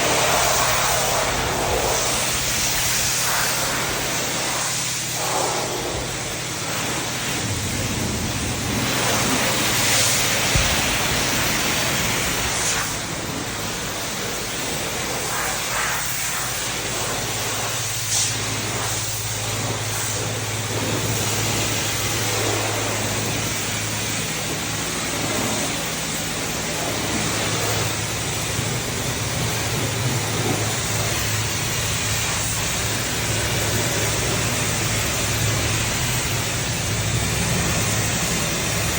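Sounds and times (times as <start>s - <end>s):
low pump hum: 0.0s - 38.9s
pressure washer spraying water: 0.0s - 38.9s.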